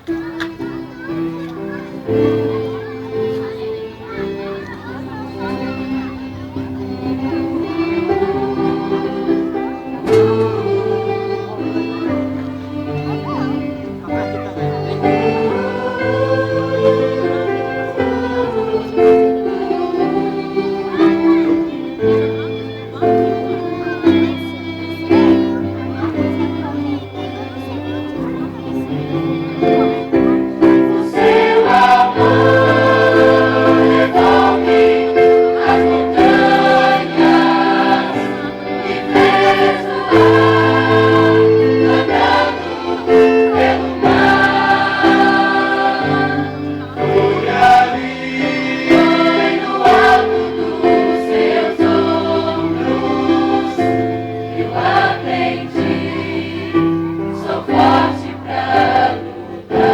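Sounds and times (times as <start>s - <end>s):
choir singing in harmony: 5.0s - 59.9s.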